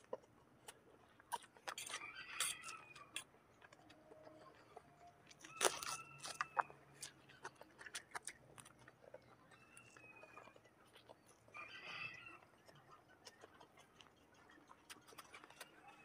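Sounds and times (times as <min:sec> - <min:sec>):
chewing food: 0:00.0 - 0:16.0.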